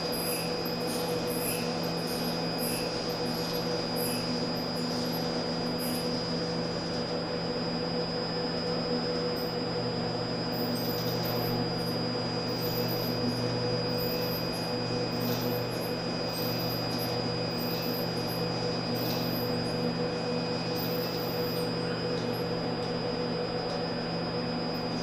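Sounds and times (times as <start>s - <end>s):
robot arms electrical hum: 0.0s - 25.0s.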